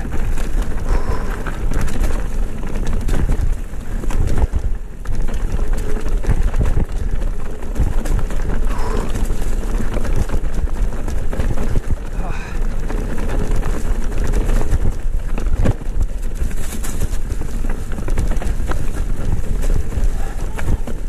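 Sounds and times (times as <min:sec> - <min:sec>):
bike rattling over bumps: 0:00.0 - 0:21.0
bike tyres hitting rocks: 0:00.0 - 0:21.0
wind buffeting microphone: 0:00.0 - 0:21.0.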